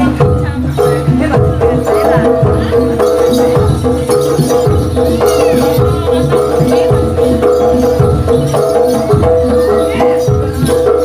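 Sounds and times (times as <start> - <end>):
gamelan music through sound system: 0.0 - 11.0.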